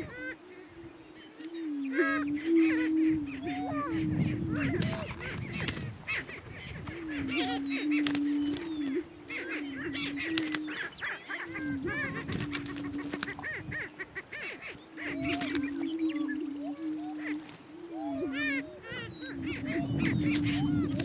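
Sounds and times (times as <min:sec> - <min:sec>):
bird cackles and whoops: 0:00.0 - 0:00.7, 0:01.3 - 0:21.0.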